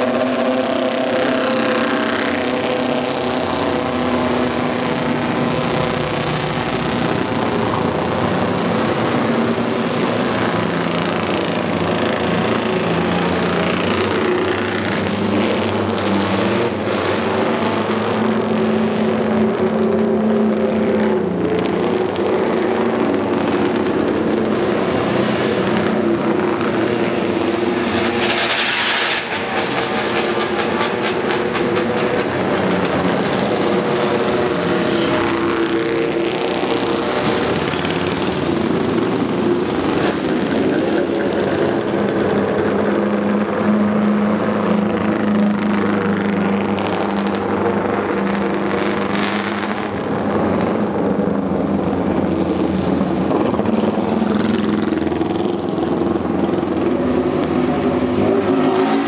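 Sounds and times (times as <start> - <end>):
motorcycles passing and revving: 0.0 - 59.0.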